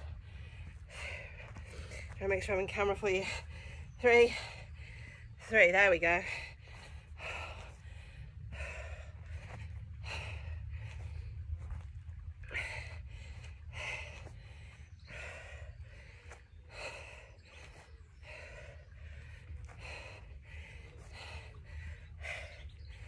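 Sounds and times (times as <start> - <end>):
woman breathing hard: 0.0 - 2.2, 3.2 - 5.5, 6.2 - 23.0
steady low rumble: 0.0 - 23.0.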